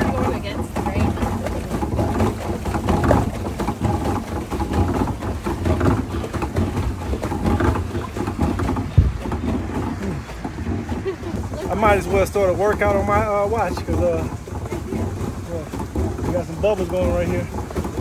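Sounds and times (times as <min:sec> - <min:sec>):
paddle wheel splashing water: 0:00.0 - 0:18.0
wind rumbling on microphone: 0:00.0 - 0:18.0.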